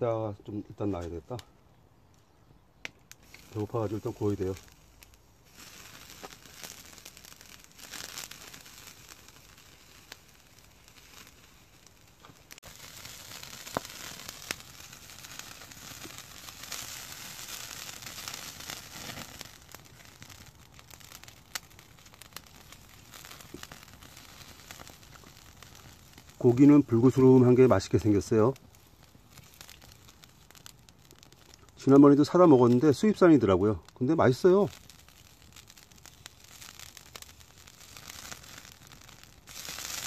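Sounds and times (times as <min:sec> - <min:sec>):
campfire popping and crackling: 0:01.0 - 0:40.0
meat sizzling on a grill: 0:03.2 - 0:40.0.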